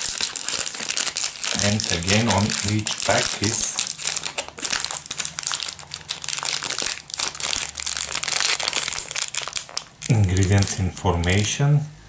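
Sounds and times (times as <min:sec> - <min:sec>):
plastic wrapper crinkling: 0:00.0 - 0:11.6.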